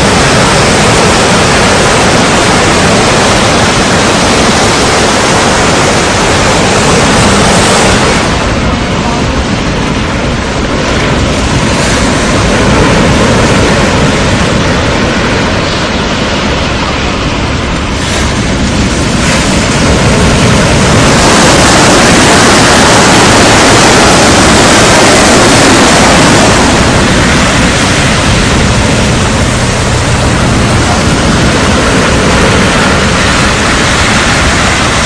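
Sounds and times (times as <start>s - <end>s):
waves breaking on beach: 0.0s - 35.0s
wind buffeting microphone: 0.0s - 35.0s.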